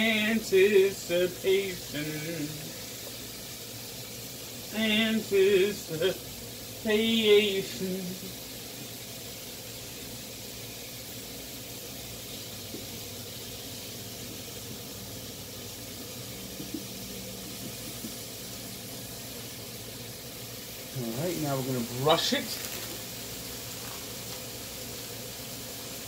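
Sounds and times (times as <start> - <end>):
chicken sizzling on electric grill: 0.0 - 26.0.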